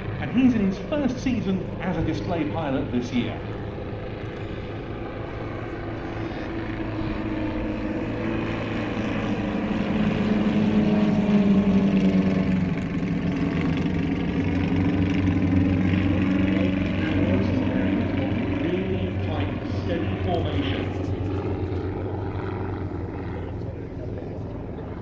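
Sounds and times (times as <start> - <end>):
light aircraft droning past: 0.0 - 25.0.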